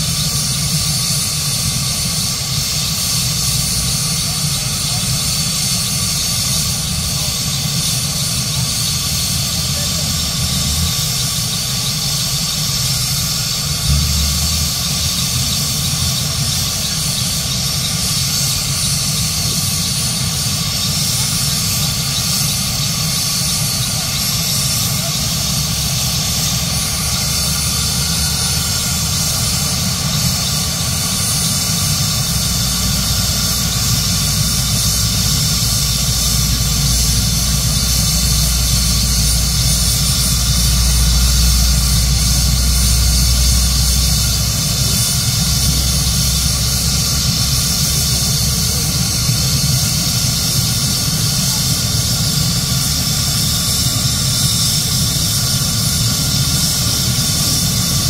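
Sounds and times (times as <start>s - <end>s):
helicopter rotor rumble: 0.0s - 58.0s
helicopter turbine whine: 0.0s - 58.0s.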